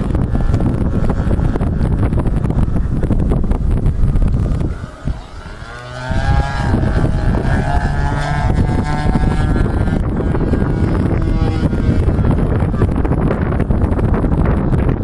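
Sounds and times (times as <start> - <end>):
model aircraft engine buzzing: 0.0 - 15.0
wind buffeting microphone: 0.0 - 15.0.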